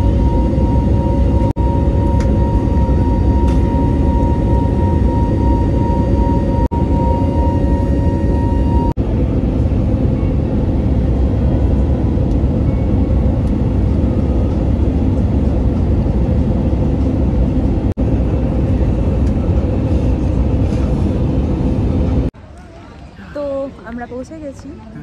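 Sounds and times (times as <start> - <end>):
airliner cabin engine rumble: 0.0 - 22.4.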